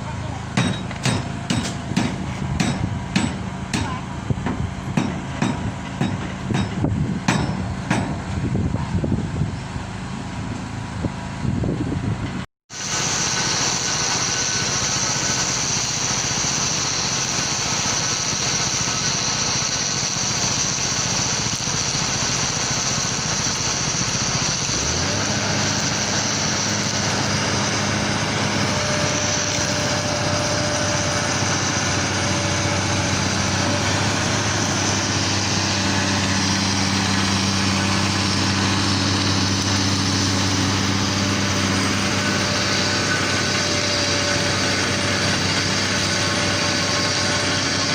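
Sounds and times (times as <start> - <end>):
construction machinery engines: 0.0 - 47.9
second engine hum: 0.0 - 47.9.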